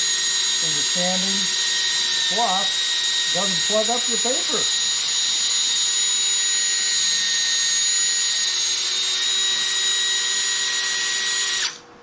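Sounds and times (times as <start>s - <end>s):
drill motor whine: 0.0s - 11.9s.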